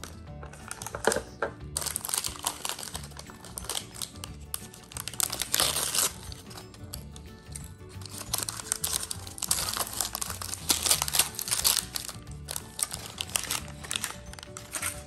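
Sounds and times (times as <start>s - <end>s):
background music: 0.0s - 15.0s
tissue paper crinkling and tearing: 1.8s - 15.0s.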